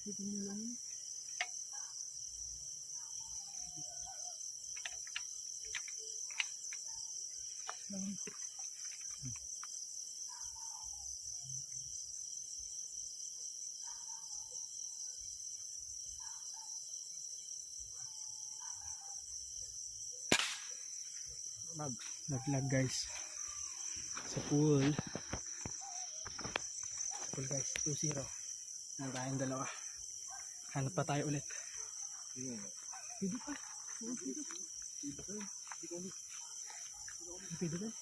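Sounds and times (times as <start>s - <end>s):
crickets chirring: 0.0s - 38.0s.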